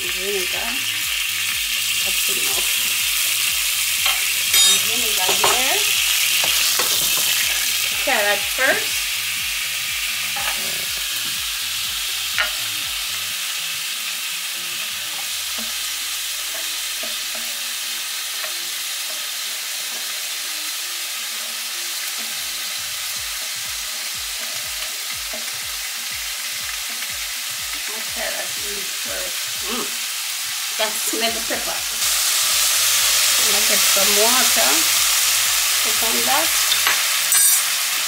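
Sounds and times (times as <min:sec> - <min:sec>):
vegetables sizzling in a frying pan: 0:00.0 - 0:38.0.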